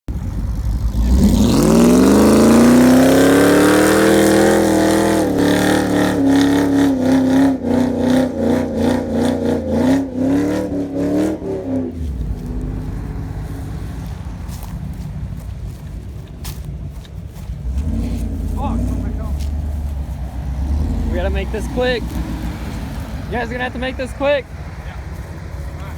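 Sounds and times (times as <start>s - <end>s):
truck engines at full throttle: 0.1s - 25.9s.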